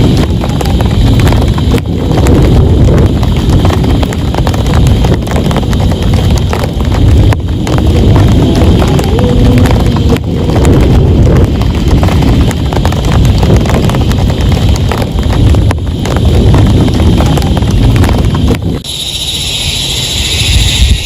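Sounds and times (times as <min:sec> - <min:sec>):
heavy rain on a tent: 0:00.0 - 0:18.8
low rumble: 0:00.0 - 0:21.0.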